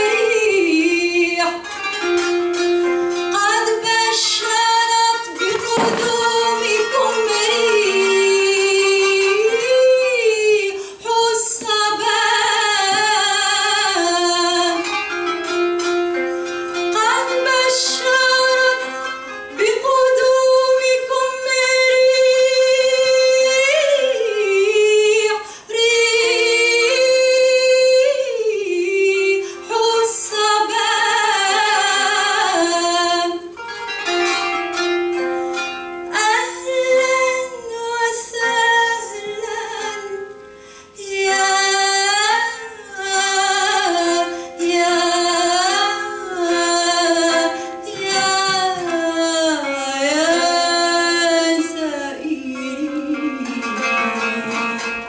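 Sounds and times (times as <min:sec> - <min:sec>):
plucked zither: 0:00.0 - 0:55.0
woman singing long notes: 0:03.4 - 0:14.9, 0:19.5 - 0:33.6, 0:36.1 - 0:55.0.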